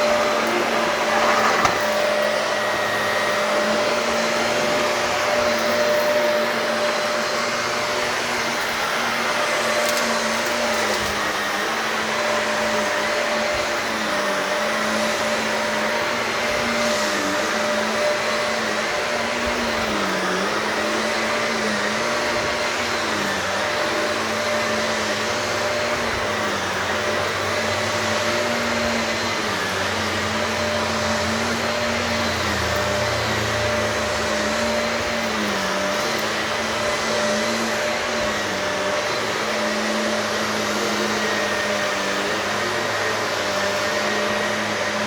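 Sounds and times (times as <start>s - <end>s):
vacuum cleaner running on carpet: 0.0s - 45.0s.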